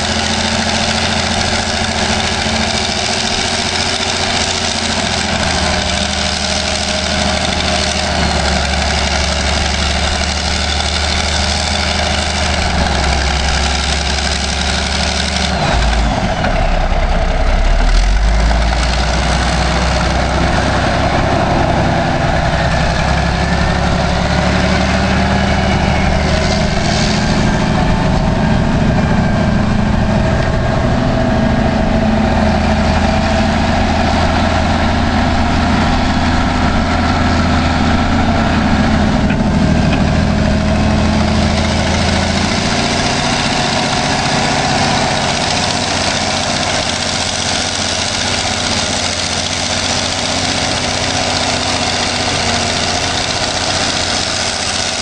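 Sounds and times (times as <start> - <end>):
wheel loader diesel engine: 0.0 - 55.0.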